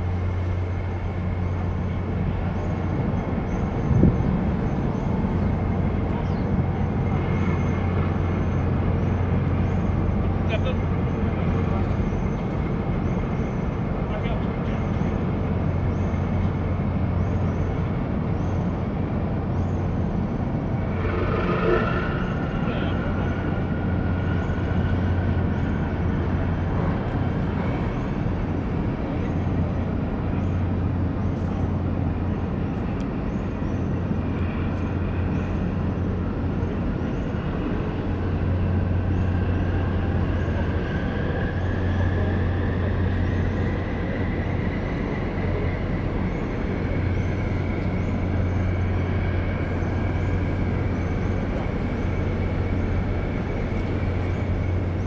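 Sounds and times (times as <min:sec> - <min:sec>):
diesel engines droning: 0:00.0 - 0:55.0.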